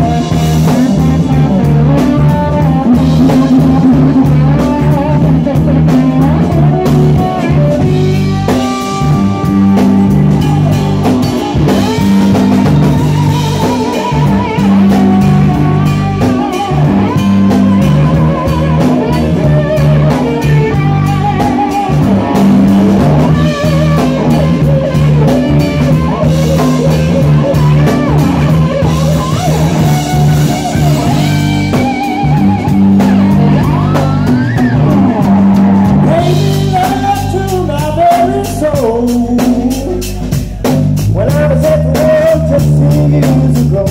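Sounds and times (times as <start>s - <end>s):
wavering lead line: 0.0s - 37.7s
blues-rock band playing: 0.0s - 43.9s.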